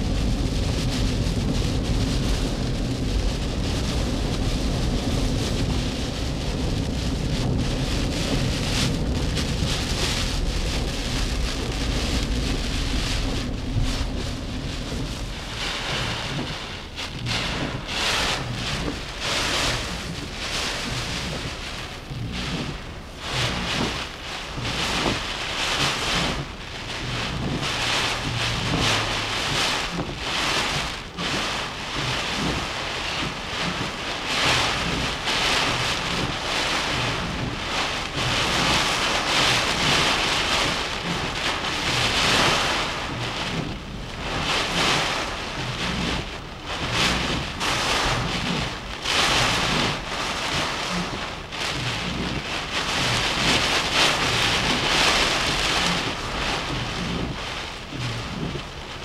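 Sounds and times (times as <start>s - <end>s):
driving rain: 0.0s - 59.0s
gusting wind: 0.0s - 59.0s.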